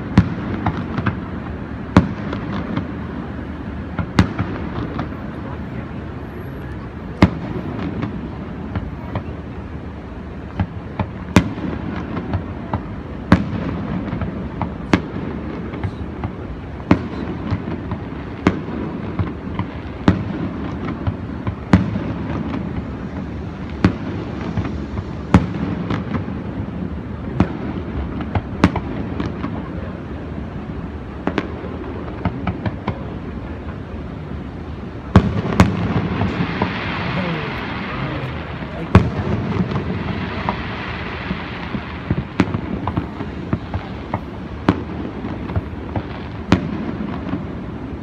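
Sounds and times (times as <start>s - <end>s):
low background noise: 0.0s - 48.0s.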